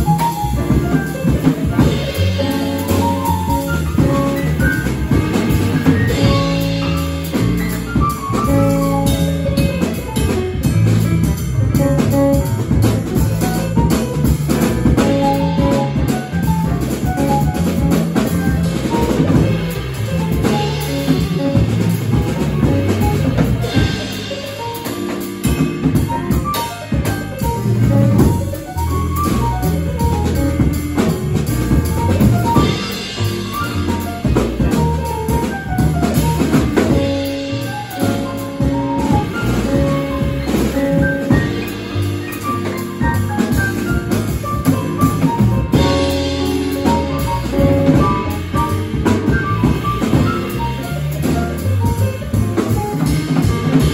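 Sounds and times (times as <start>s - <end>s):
drum kit: 0.0s - 53.9s
piano: 0.0s - 53.9s
upright bass: 0.0s - 53.9s.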